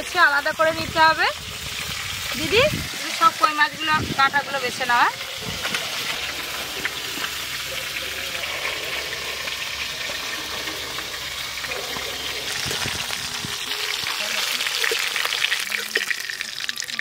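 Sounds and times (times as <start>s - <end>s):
hot oil sizzling in a wok: 0.0s - 17.0s.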